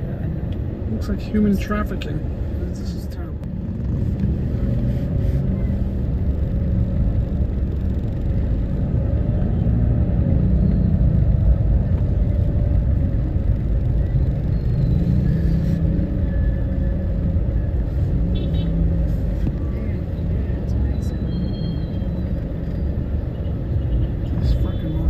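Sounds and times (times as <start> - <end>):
traffic engine rumble: 0.0 - 25.0.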